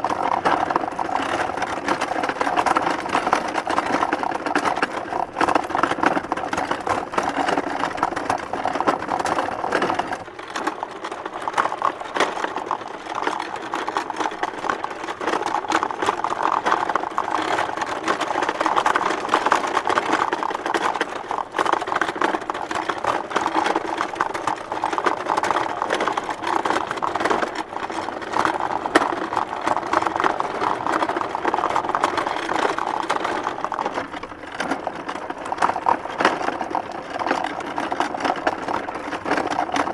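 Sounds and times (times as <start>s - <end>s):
wooden cart rattling on dirt road: 0.0s - 39.9s.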